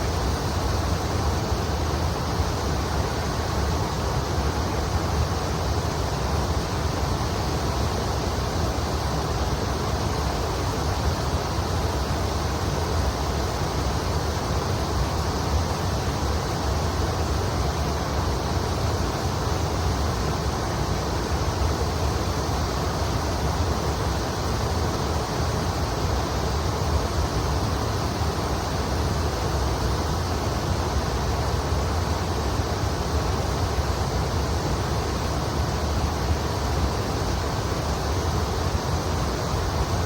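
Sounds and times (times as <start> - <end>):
river water flowing: 0.0 - 40.0.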